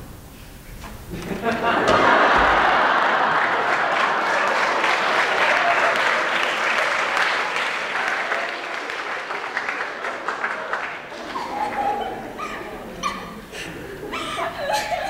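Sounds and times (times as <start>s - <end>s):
audience applauding: 1.5s - 14.8s.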